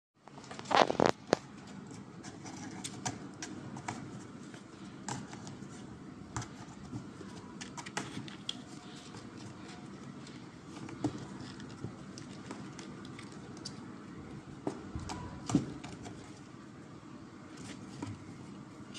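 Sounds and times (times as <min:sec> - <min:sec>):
low room hum: 0:00.2 - 0:18.9.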